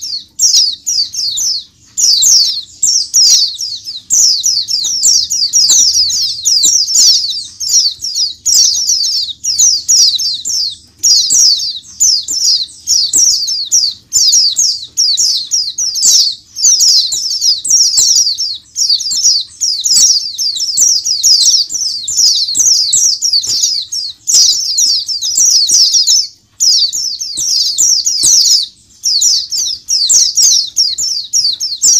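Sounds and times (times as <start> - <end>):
flock of birds twittering: 0.0 - 31.9.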